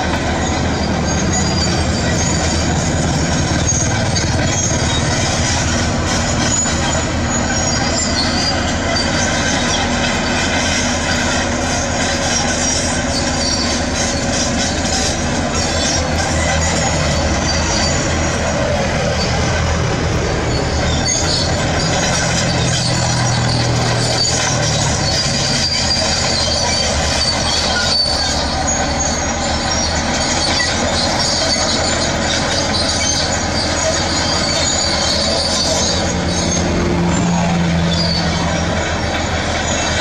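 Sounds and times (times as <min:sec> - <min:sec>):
diesel engine running: 0:00.0 - 0:40.0
steel tracks squealing and clanking: 0:00.0 - 0:40.0.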